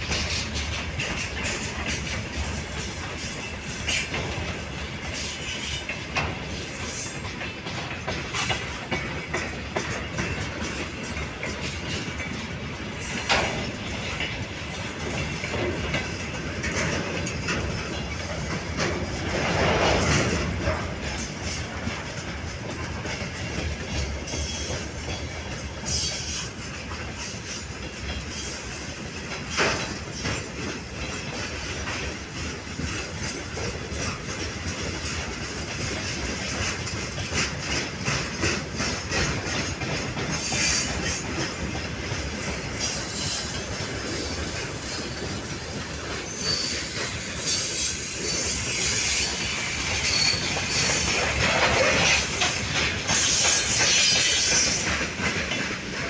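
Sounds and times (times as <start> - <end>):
freight train rumbling on rails: 0.0 - 56.0
wheels clacking over rail joints: 0.0 - 56.0.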